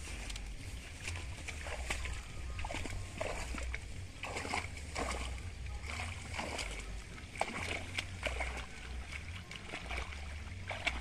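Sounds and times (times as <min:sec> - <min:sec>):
hands splashing in muddy water: 0:00.0 - 0:11.0.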